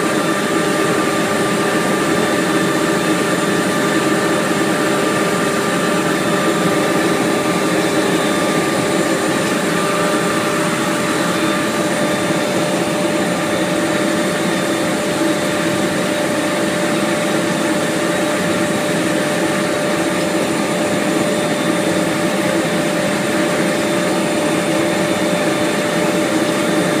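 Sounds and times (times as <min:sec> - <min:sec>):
machine motor hiss and whine: 0:00.0 - 0:27.0.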